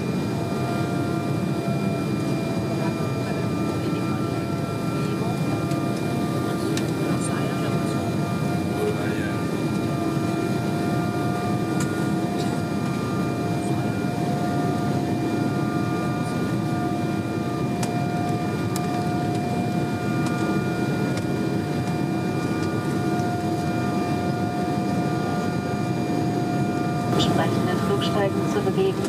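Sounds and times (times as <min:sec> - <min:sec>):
jet engines humming: 0:00.0 - 0:29.0
steady whining tones: 0:00.0 - 0:29.0.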